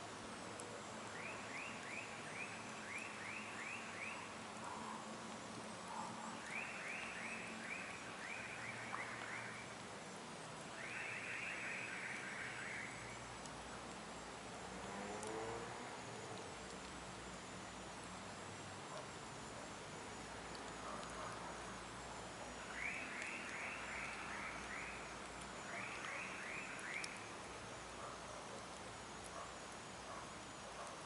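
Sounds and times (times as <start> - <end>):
campfire hiss and clicks: 0.0 - 31.0.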